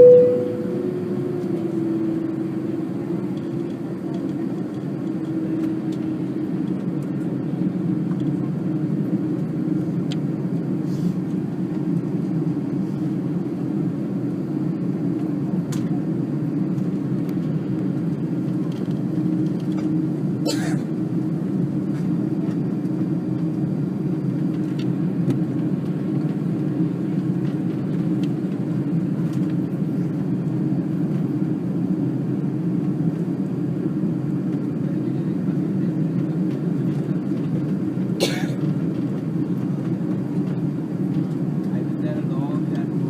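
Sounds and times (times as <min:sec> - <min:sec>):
jet engines running at low power: 0:00.0 - 0:43.0.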